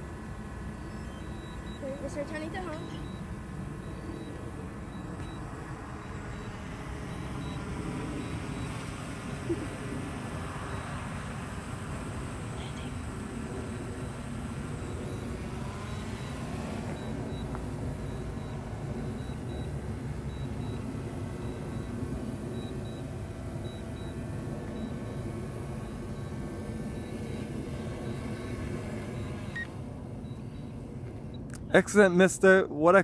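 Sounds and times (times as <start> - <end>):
drone propellers whirring: 0.0 - 32.8.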